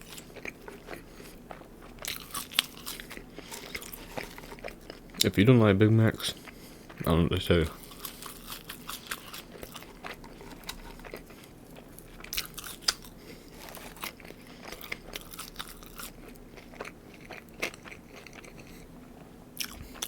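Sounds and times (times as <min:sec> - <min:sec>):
close chewing with wet smacks: 0:00.0 - 0:05.4, 0:06.0 - 0:20.0
food crunching: 0:00.0 - 0:20.0.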